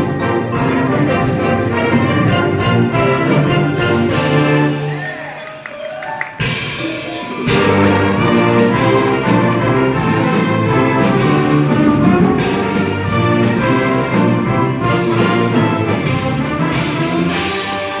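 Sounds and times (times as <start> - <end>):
wind band playing: 0.0 - 18.0.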